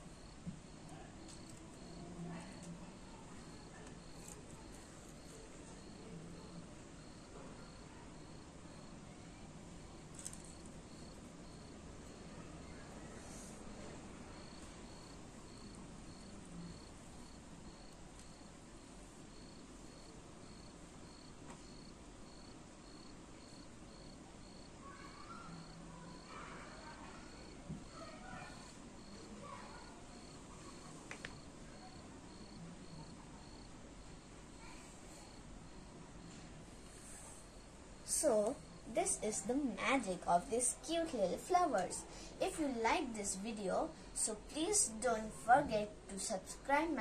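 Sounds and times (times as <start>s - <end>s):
cricket chirping: 0.0s - 40.8s
faint steady hiss: 0.0s - 47.0s.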